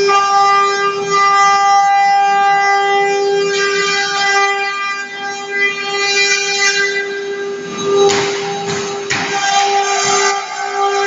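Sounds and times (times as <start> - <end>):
router spindle high-pitched whine: 0.0 - 11.0.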